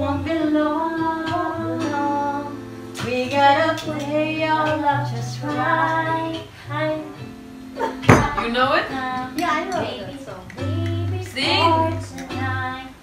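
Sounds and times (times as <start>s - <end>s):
karaoke backing track from tv: 0.0s - 13.0s
women singing karaoke: 0.0s - 13.0s.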